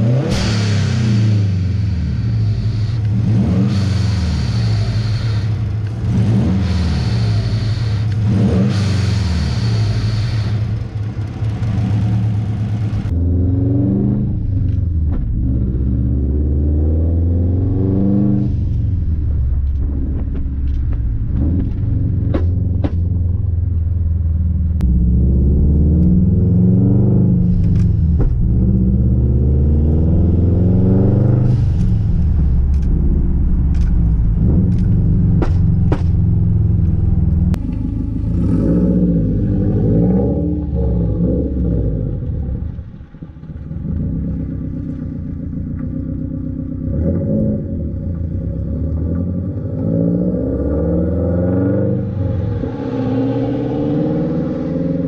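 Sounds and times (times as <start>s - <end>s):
car engine revving through gears: 0.0s - 18.9s, 24.8s - 55.0s.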